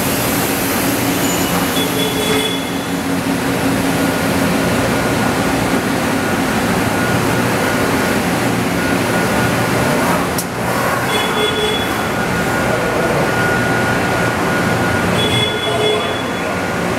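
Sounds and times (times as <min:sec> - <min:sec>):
machinery humming: 0:00.0 - 0:16.9.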